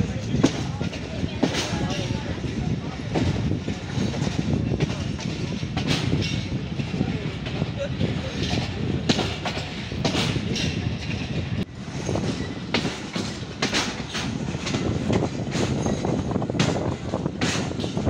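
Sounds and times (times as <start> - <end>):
train rumbling: 0.0 - 18.0
wheels clacking over track joints: 0.0 - 18.0.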